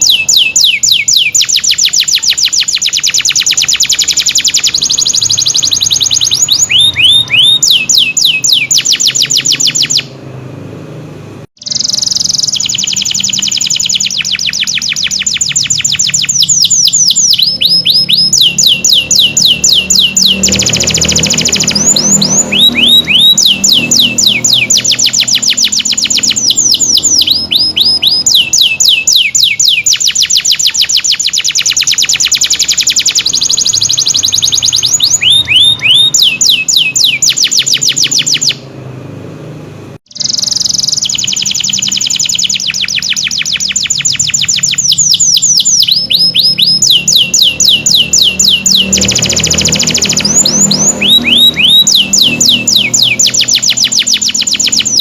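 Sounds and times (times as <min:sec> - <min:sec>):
canary singing trills: 0:00.0 - 0:10.2, 0:11.6 - 0:38.7, 0:40.1 - 0:55.0.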